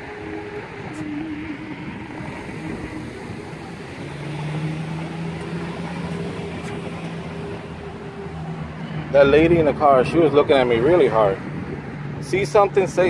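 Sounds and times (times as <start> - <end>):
car engine running: 0.0 - 12.8
street noise: 0.0 - 13.0.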